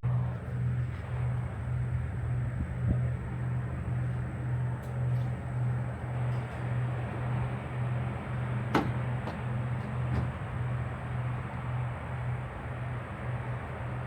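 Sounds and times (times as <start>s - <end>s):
car engine drone: 0.0s - 14.0s
road noise: 0.0s - 14.0s.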